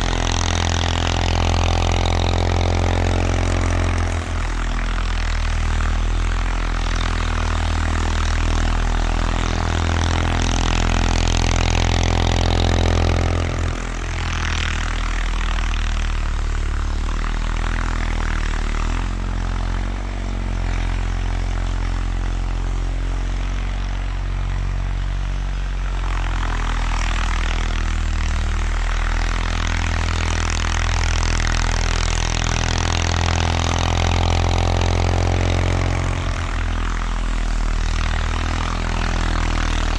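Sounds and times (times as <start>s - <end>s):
garden tractor engine under load: 0.0s - 39.9s.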